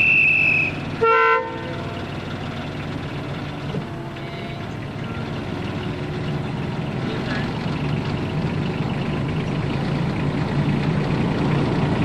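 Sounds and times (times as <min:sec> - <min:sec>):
diesel locomotive engine humming: 0:00.0 - 0:12.0.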